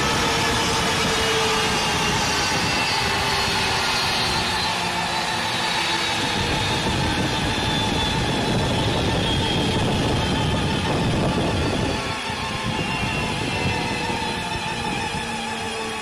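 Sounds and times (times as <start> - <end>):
jet engines idling: 0.0 - 16.0.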